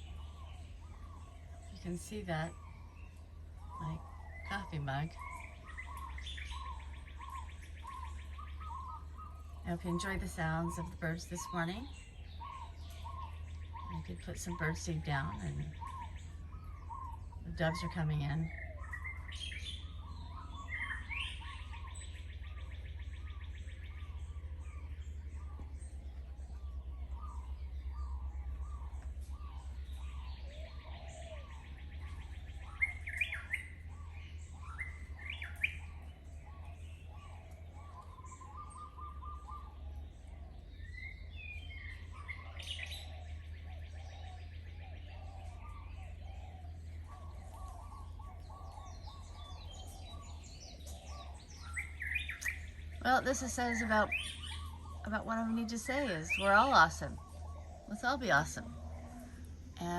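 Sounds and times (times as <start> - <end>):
low rumble: 0.0 - 59.9
wild birds chirping and trilling: 0.0 - 59.9.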